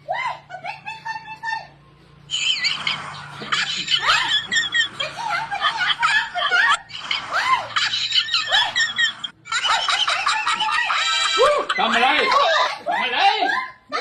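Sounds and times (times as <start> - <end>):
voices laughing and squealing: 0.0 - 14.0.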